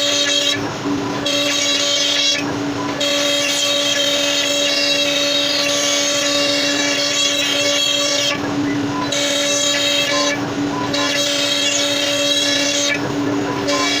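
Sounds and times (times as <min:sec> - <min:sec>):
cnc router whining: 0:00.0 - 0:14.0.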